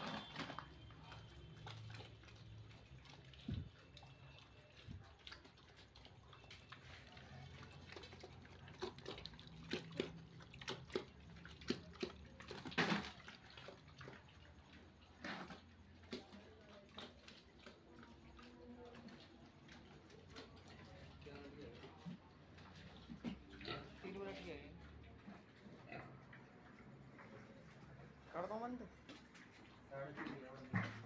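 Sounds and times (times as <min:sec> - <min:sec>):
piglets eating wet mash: 0:00.0 - 0:31.0.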